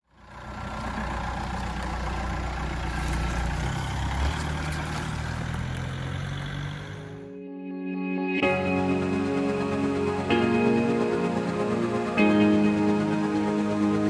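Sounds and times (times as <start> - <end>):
diesel engine running: 0.0 - 7.3, 8.4 - 14.0.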